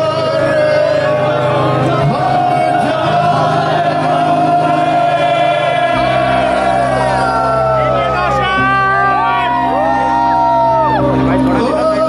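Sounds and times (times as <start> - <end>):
crowd singing along: 0.0 - 12.0.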